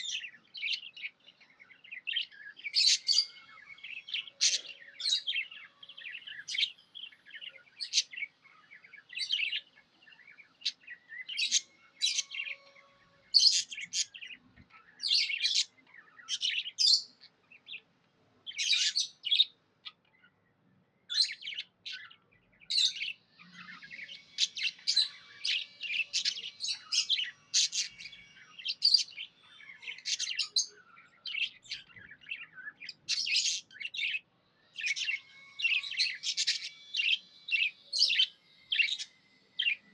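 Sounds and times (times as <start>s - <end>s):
budgies chirping: 0.0s - 20.4s, 21.1s - 39.9s.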